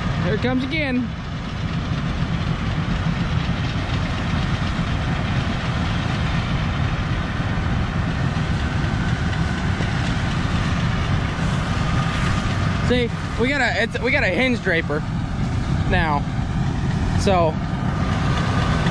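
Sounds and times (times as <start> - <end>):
combine harvester drone: 0.0 - 18.9.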